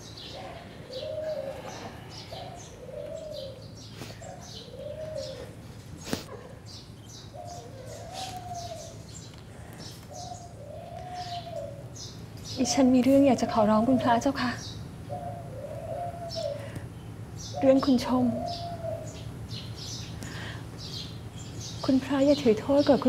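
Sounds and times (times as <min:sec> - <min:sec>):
doves cooing: 0:00.0 - 0:23.0
small birds chirping: 0:00.0 - 0:23.0.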